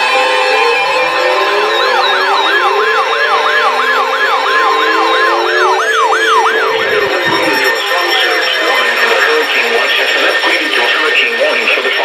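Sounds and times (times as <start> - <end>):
siren-like whoop: 0.0 - 9.8
weather alert radio alarms: 0.0 - 12.0.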